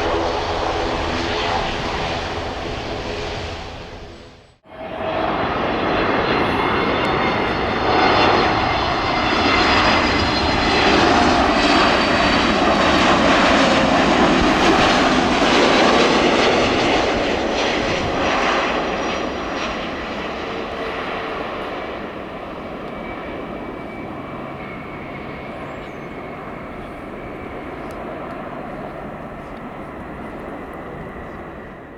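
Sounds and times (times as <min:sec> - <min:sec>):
jet engines roaring: 0:00.0 - 0:31.9.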